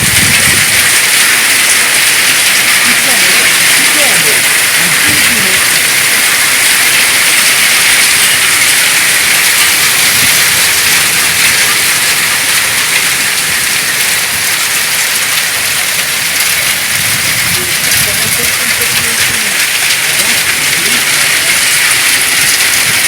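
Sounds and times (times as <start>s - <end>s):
rain falling steadily: 0.0s - 23.0s.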